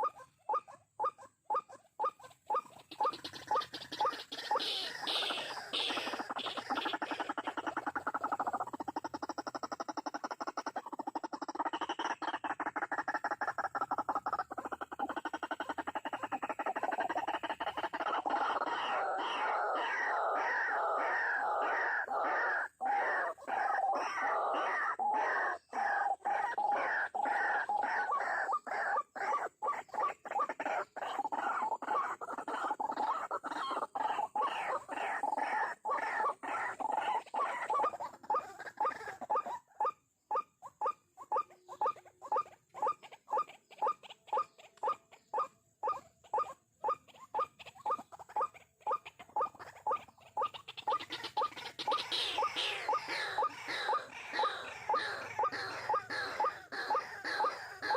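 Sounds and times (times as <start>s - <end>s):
bird calling: 0.0s - 57.9s.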